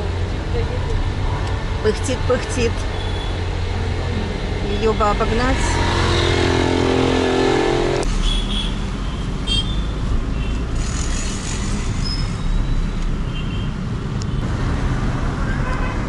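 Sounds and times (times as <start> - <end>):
auto-rickshaw engine hum: 0.0 - 16.0
car road rumble: 0.0 - 16.0.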